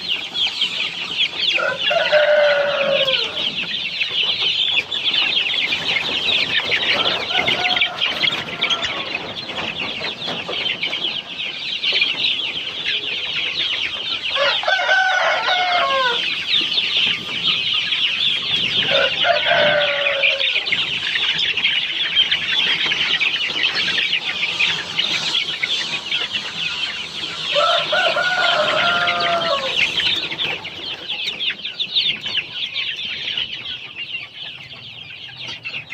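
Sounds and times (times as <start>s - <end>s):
chicken calling: 0.0s - 35.9s
chicks peeping: 0.0s - 35.9s.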